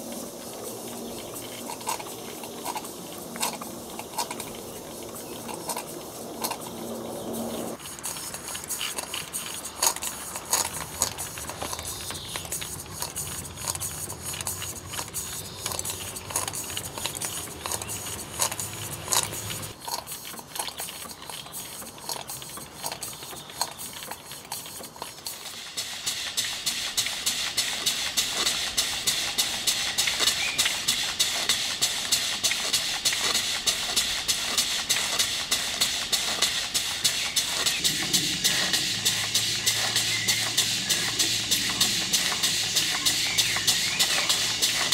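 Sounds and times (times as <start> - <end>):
steam engine valve gear clicking: 0.0 - 7.0, 7.7 - 44.9
escaping steam hiss: 0.0 - 19.8, 24.6 - 44.9
fast regular ticks: 0.0 - 44.9.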